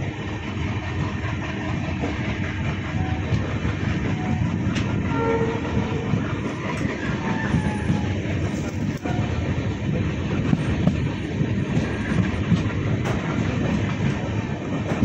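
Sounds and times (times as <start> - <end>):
train wheel clacks: 0.0 - 15.0
train wheels rumbling on rail: 0.0 - 15.0.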